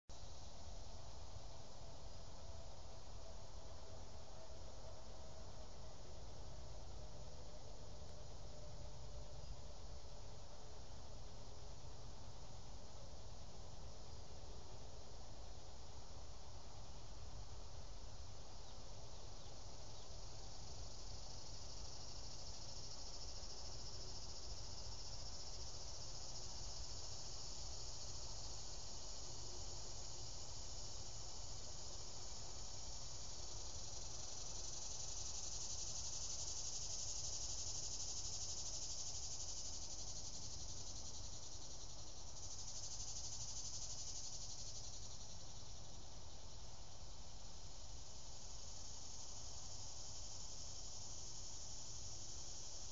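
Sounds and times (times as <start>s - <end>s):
insects buzzing: 0.1s - 52.9s.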